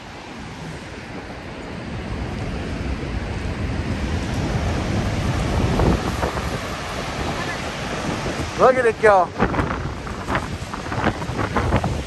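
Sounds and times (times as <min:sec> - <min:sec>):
waterfall roaring: 0:00.0 - 0:12.0
wind buffeting microphone: 0:00.0 - 0:12.0.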